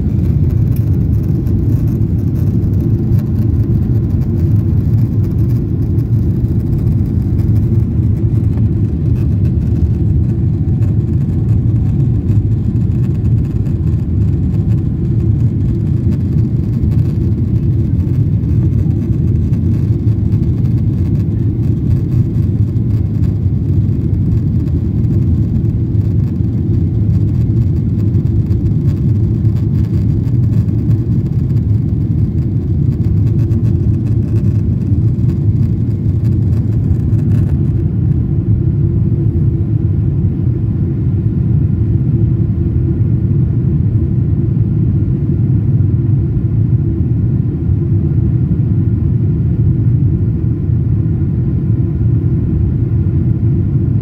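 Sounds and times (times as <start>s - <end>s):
jet cabin rumble: 0.0s - 54.0s.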